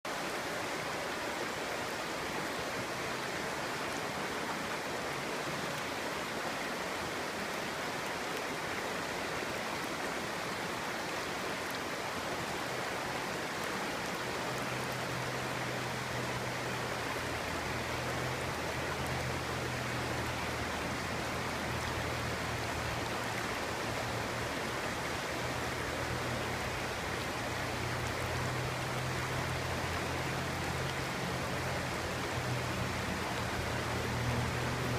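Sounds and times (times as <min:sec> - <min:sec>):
stream flowing: 0:00.1 - 0:34.9.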